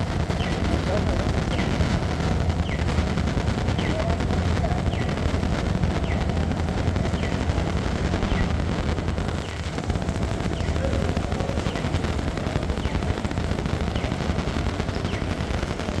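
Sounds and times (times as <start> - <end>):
low rumble: 0.0 - 15.8
heavy rain patter: 0.0 - 16.0.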